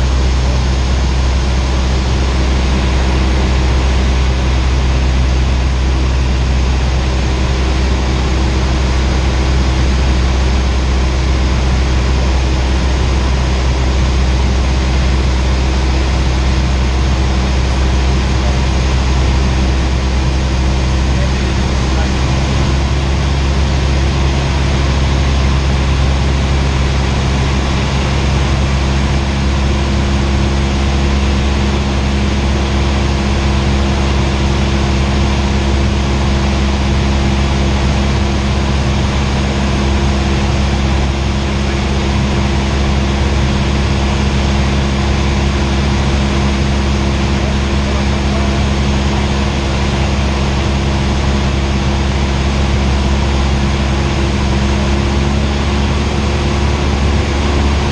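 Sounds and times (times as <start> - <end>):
airplane engine hum in cabin: 0.0 - 57.9.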